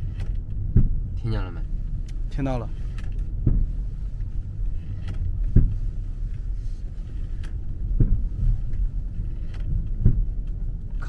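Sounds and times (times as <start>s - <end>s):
dull clunks: 0.0s - 11.0s
road rumble inside car: 0.0s - 11.0s.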